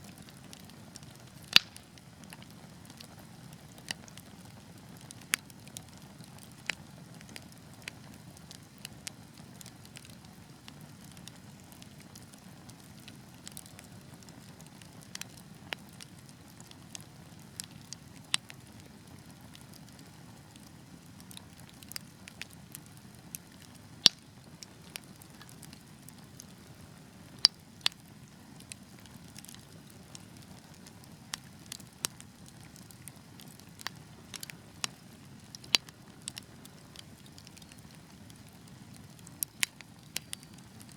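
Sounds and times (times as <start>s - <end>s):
fire crackles and pops: 0.0s - 40.9s
wood fire rumbling: 0.1s - 40.9s.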